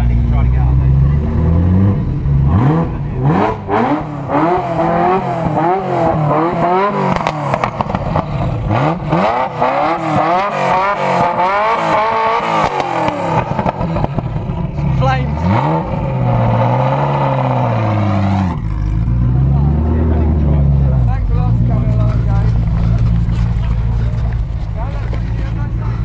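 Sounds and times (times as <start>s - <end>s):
car engine revving: 0.0s - 26.0s
exhaust crackles: 0.0s - 26.0s.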